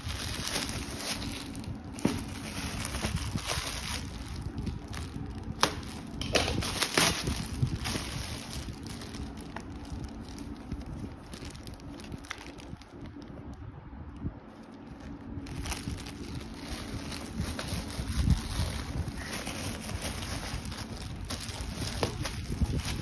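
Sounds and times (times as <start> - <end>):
cloth bag rustling: 0.0 - 12.9, 14.8 - 23.0
plastic wrapping crinkling: 0.0 - 13.6, 14.5 - 23.0.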